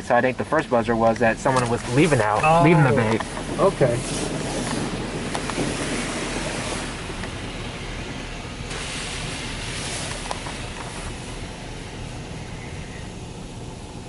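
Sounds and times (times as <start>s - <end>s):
hissing water jet spray: 0.5s - 14.0s.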